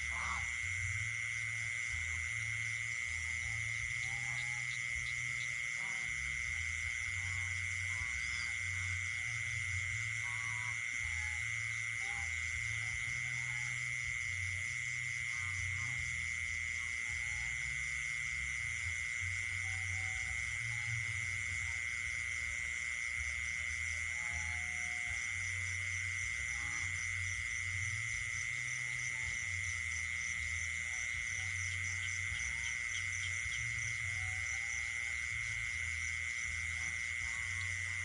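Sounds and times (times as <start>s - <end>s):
high-pitched insect trill: 0.0s - 38.0s
low frog croaks: 0.0s - 38.0s
pulsing insect buzz: 0.0s - 38.0s.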